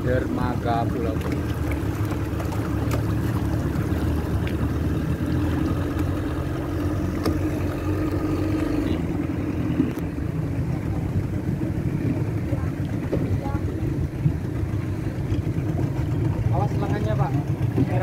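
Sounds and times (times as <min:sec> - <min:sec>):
boat motor running: 0:00.0 - 0:18.0
water rushing against hull: 0:00.0 - 0:18.0.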